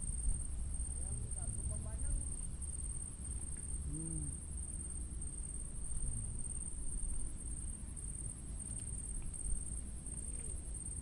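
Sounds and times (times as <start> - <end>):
insects droning: 0.0 - 11.0
low continuous rumble: 0.0 - 11.0.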